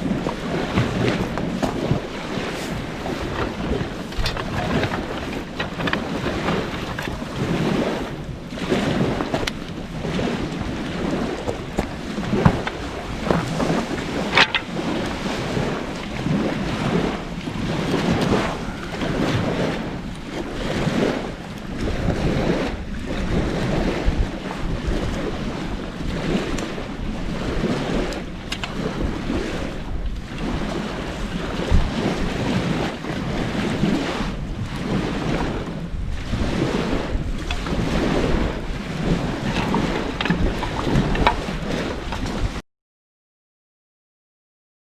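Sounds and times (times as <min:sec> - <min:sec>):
wind buffeting microphone: 0:00.0 - 0:42.6.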